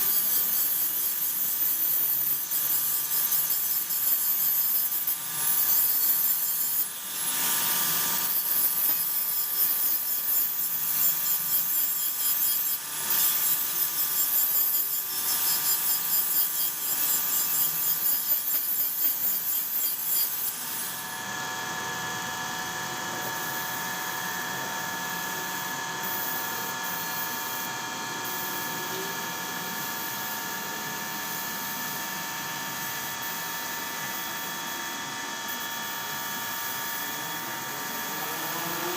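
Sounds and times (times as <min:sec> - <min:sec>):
hand-held power tool on metal: 0:00.0 - 0:38.9.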